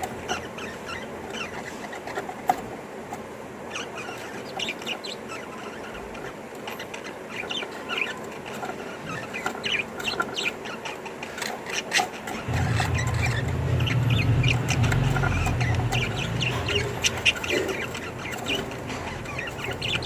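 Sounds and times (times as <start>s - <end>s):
budgie chicks cheeping: 3.7s - 20.0s.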